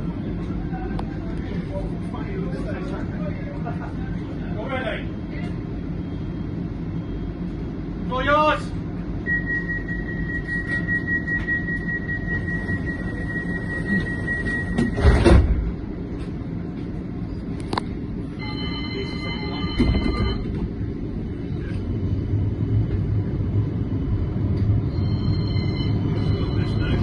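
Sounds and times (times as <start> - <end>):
tram rumble: 0.0 - 27.0.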